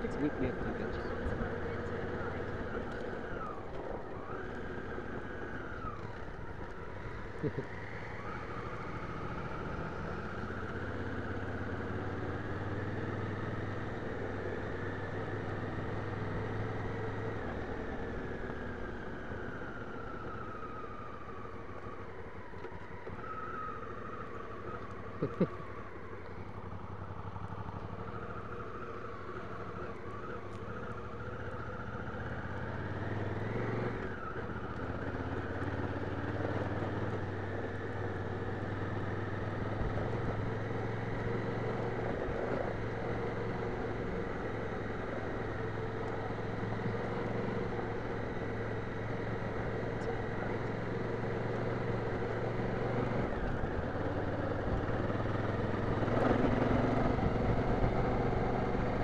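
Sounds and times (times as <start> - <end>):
motorcycle engine revving: 0.0 - 59.0
wind and tyre noise: 0.0 - 59.0.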